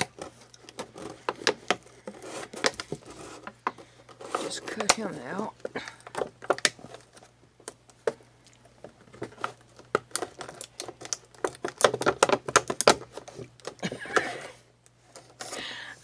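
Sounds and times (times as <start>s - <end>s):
stiff plastic crackling: 0.0s - 15.6s.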